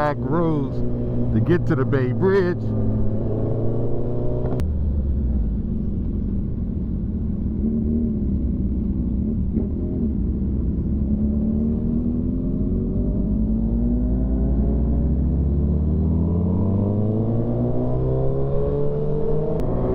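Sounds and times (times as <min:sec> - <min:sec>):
motorcycle engine cruising: 0:00.0 - 0:19.9
road and wind rumble: 0:00.0 - 0:19.9.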